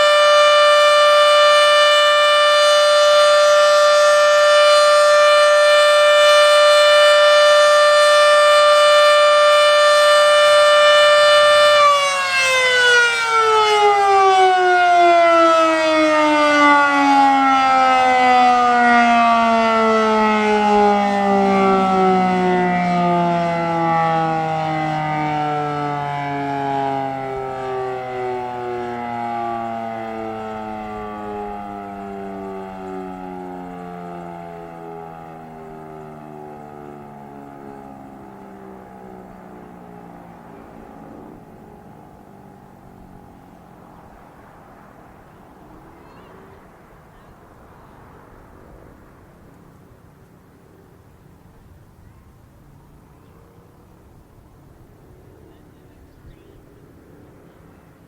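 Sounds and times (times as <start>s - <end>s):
warning siren: 0.0s - 50.2s.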